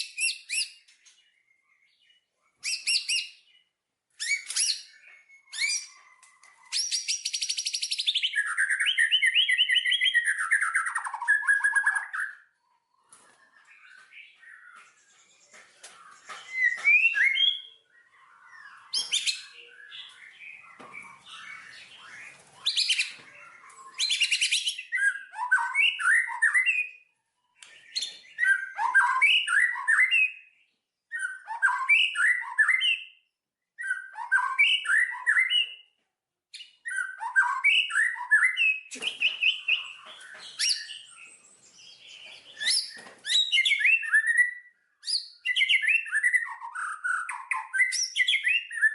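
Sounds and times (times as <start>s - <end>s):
songbird chirping: 0.0s - 48.9s.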